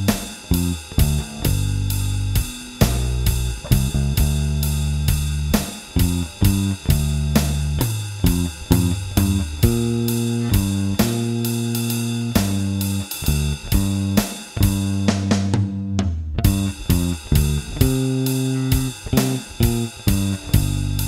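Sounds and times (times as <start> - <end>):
backing drum track: 0.0 - 21.0
electric bass blues line: 0.0 - 21.0.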